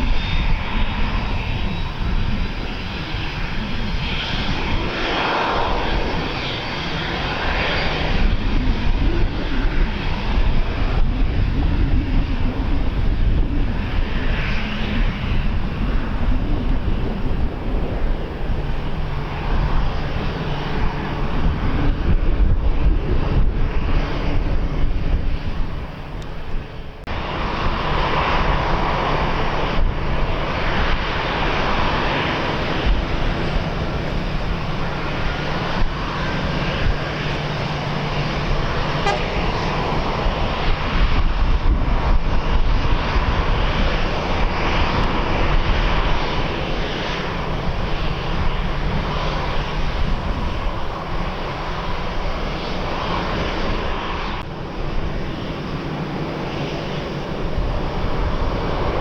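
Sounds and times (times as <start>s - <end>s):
airliner engines running: 0.0s - 59.0s.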